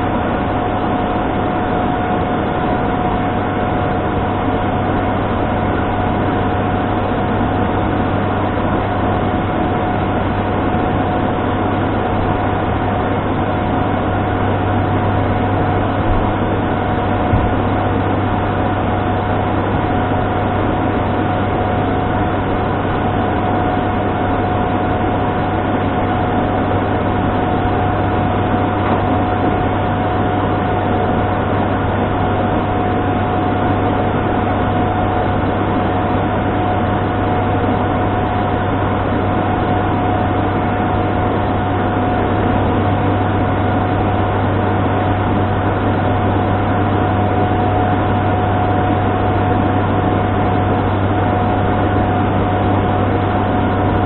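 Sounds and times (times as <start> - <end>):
propeller drone: 0.0 - 54.0.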